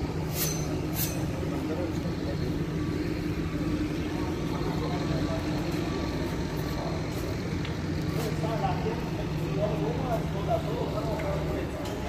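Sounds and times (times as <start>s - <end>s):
train electrical hum: 0.0s - 12.0s.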